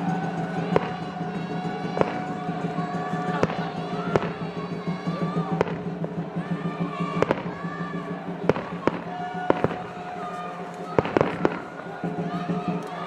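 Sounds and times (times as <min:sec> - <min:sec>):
background music: 0:00.0 - 0:13.0
fireworks exploding: 0:00.1 - 0:12.6.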